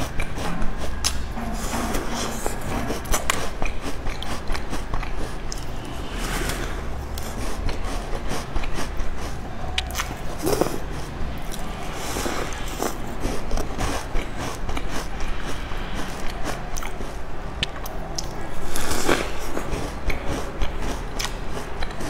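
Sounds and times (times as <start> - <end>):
person chewing cookies: 0.0 - 22.0.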